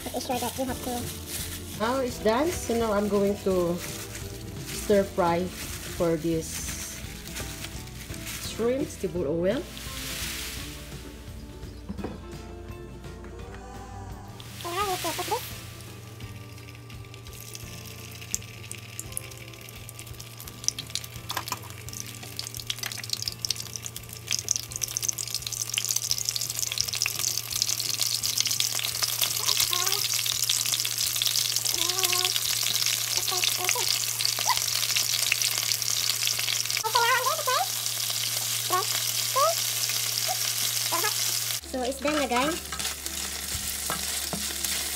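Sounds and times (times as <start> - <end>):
shrimp sizzling in hot oil: 0.0 - 11.5, 14.4 - 44.9.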